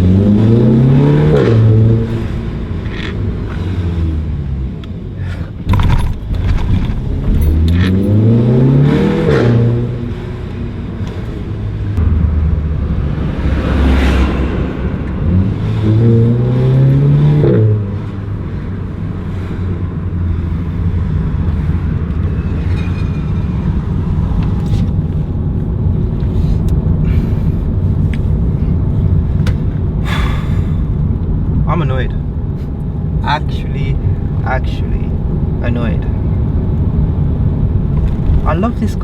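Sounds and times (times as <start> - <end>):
car engine revving: 0.0 - 4.9, 5.6 - 39.0.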